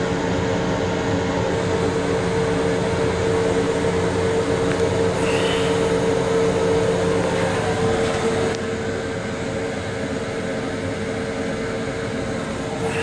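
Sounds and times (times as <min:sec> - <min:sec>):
constant droning tone: 0:00.0 - 0:13.0
railcar rumble and hum: 0:00.0 - 0:13.0.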